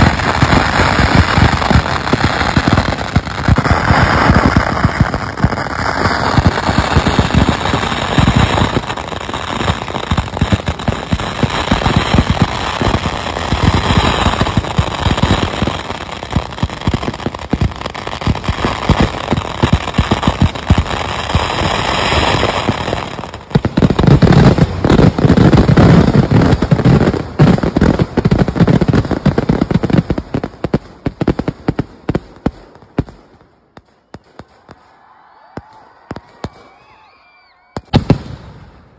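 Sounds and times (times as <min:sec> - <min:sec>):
firecracker explosions: 0:00.0 - 0:38.9.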